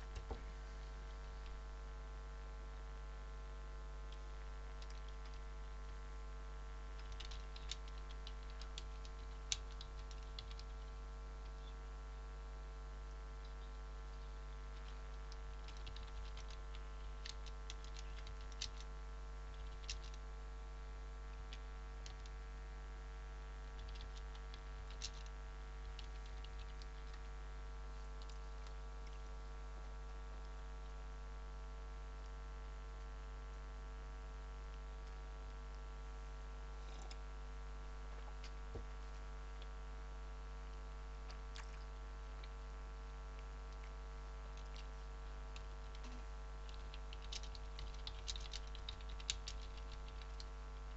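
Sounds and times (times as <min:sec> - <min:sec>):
electrical hum: 0:00.0 - 0:50.9.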